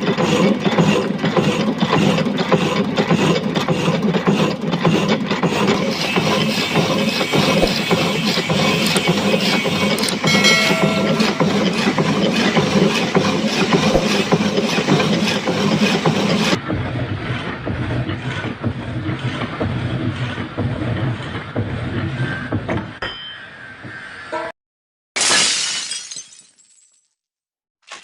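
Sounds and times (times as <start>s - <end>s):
industrial machinery running: 0.0s - 22.7s.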